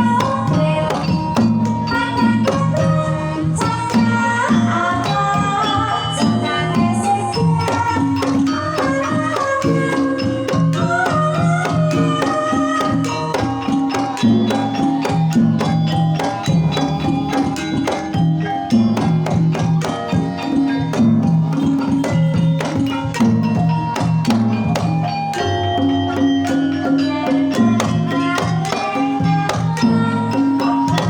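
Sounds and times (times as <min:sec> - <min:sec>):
gamelan percussion music: 0:00.0 - 0:31.0.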